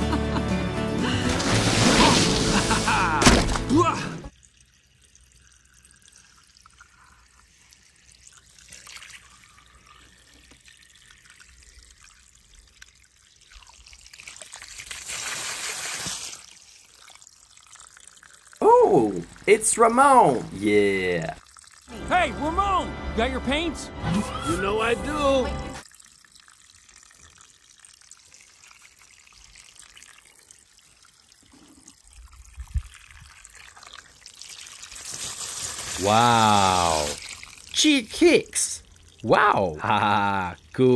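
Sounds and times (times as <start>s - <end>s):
water pouring and splashing: 0.9s - 22.0s, 25.8s - 40.8s.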